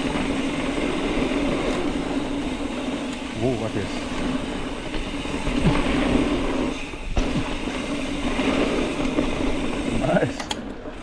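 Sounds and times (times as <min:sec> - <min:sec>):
wind noise: 0:00.0 - 0:10.3.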